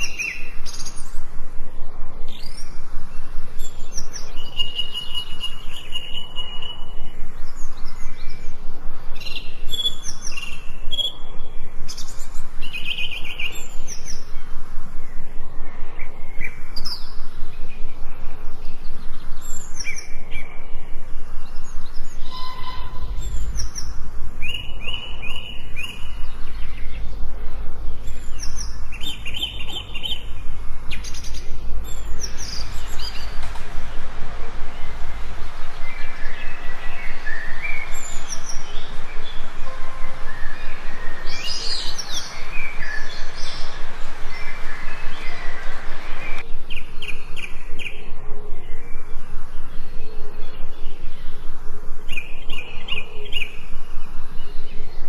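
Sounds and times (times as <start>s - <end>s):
low rumble: 0.0s - 52.9s
background hiss: 0.0s - 55.0s
birds chirping and singing: 0.0s - 55.0s.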